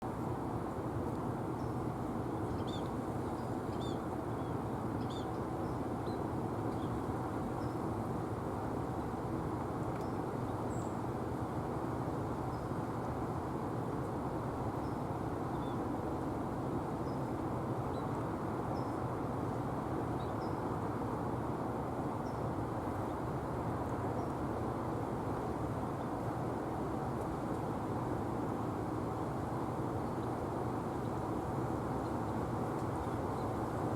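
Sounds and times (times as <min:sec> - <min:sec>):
low rumbling background noise: 0:00.0 - 0:33.9.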